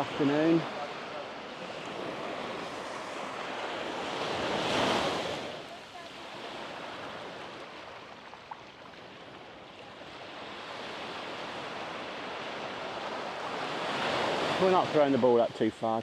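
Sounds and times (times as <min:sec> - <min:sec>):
sea waves breaking on beach: 0:00.0 - 0:16.0.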